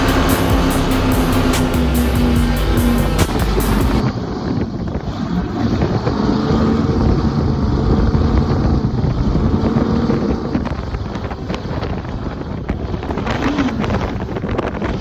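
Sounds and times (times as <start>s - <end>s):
powerboat engines rumbling: 0.0s - 15.0s.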